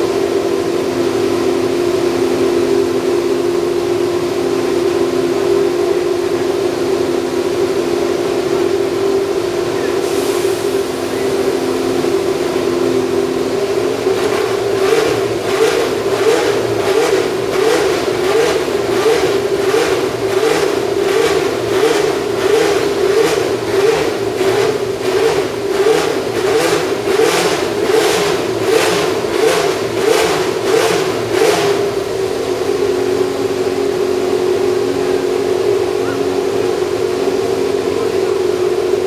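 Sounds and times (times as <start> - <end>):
racing engine at high revs: 0.0 - 39.0.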